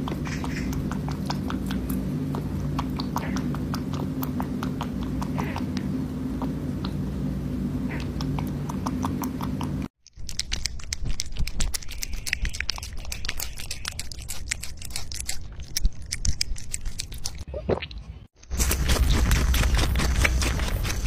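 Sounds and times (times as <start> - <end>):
low hum: 0.0 - 21.0
rabbit crunching apple: 0.0 - 21.0
rabbit nibbling soft fruit: 0.0 - 21.0.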